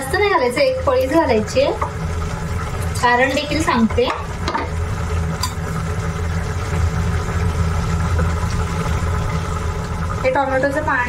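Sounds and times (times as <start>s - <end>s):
electric motor hum: 0.0s - 11.0s.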